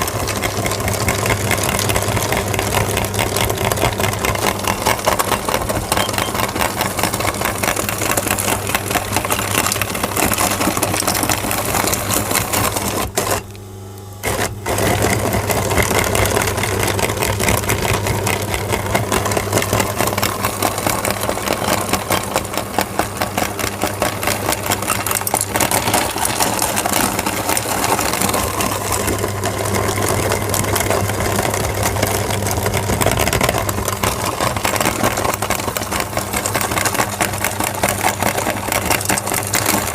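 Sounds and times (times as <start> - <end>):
dense rapid crackle: 0.0 - 13.4, 14.2 - 39.9
electric meat grinder motor: 0.0 - 13.6, 14.2 - 39.9.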